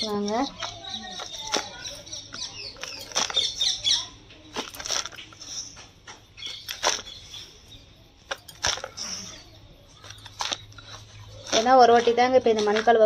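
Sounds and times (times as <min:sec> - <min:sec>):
soil rustling and pattering: 0:00.0 - 0:13.0.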